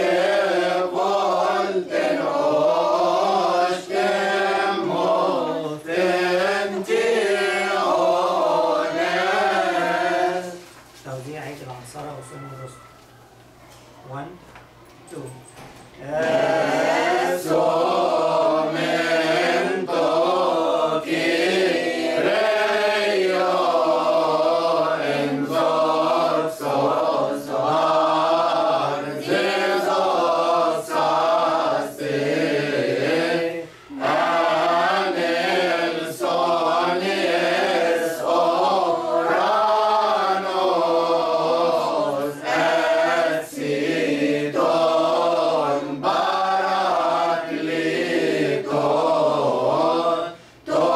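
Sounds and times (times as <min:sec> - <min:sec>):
choir chanting a hymn: 0:00.0 - 0:10.7, 0:16.0 - 0:50.9.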